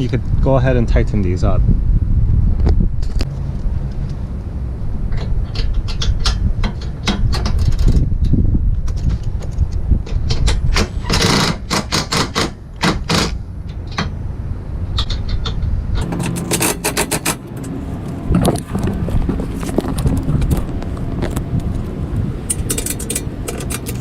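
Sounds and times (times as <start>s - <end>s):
steady low rumble: 0.0s - 11.7s, 12.5s - 24.0s.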